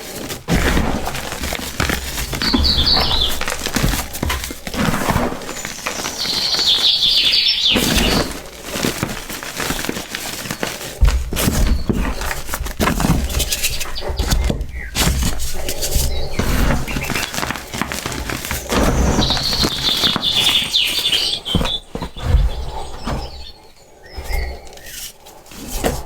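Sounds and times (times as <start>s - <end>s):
brittle block crunching by hand: 0.0s - 22.1s
birds chirping: 0.0s - 26.0s.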